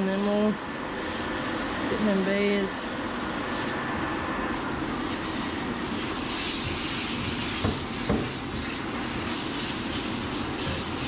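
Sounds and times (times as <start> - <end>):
hose water spraying: 0.0 - 3.8, 4.6 - 11.0.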